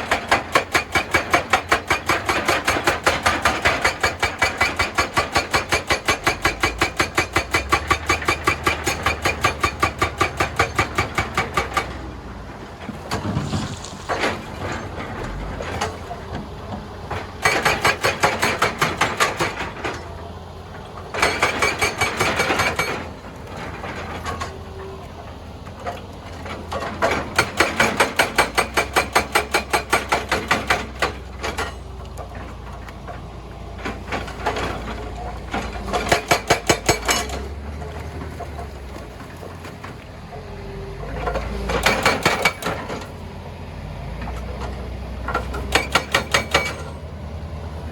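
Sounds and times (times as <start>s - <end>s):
hydraulic rock breaker hammering: 0.0s - 20.2s, 20.8s - 24.7s, 25.7s - 40.0s, 41.1s - 43.2s, 44.3s - 47.1s
diesel engine running: 0.0s - 47.9s.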